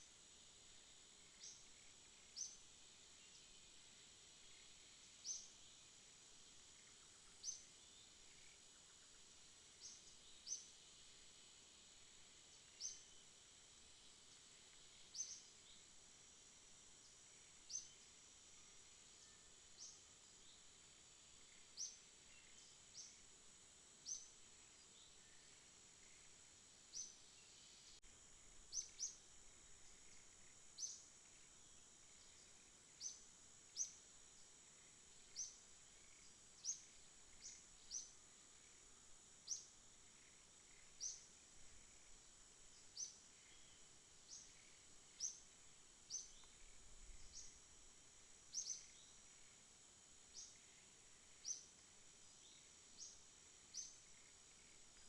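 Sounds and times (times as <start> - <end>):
sharp high insect chirps: 0.0 - 23.3, 24.0 - 55.0
crickets trilling: 0.0 - 55.0.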